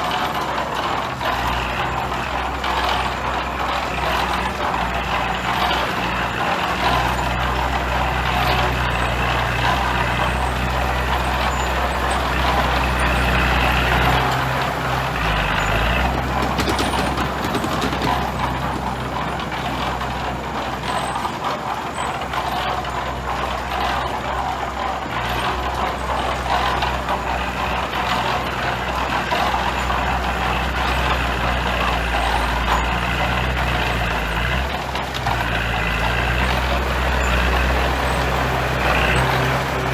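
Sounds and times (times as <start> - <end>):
diesel machinery engine running: 0.0 - 39.9
metal clanks and rattles: 0.0 - 39.9.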